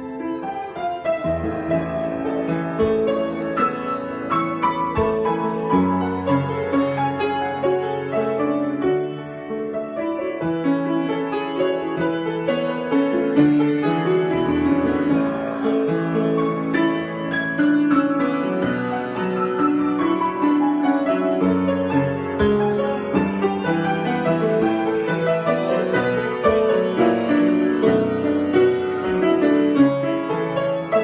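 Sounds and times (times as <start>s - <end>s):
solo piano improvisation: 0.0s - 31.0s.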